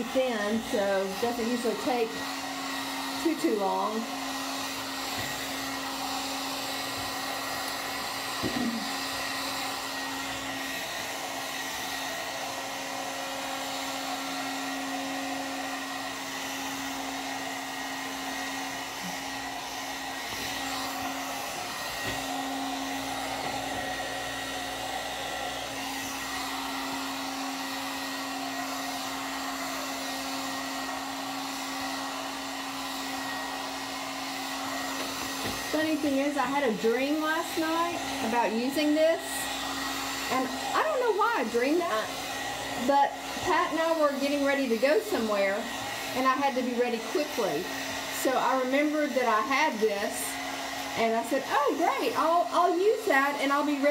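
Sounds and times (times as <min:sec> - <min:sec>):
hot-air dryer brush blowing: 0:00.0 - 0:53.9.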